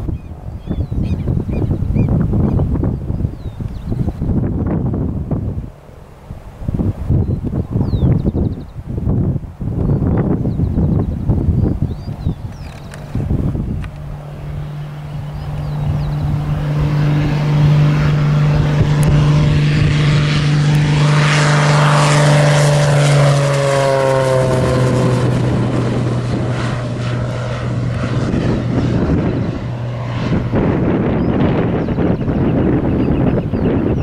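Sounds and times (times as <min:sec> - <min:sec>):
plane engine and propeller drone: 0:00.0 - 0:34.0.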